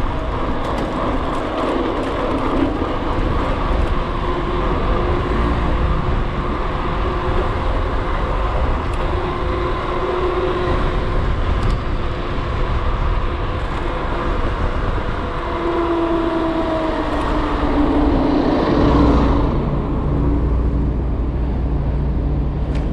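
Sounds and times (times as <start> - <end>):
road traffic rumble: 0.0 - 22.9.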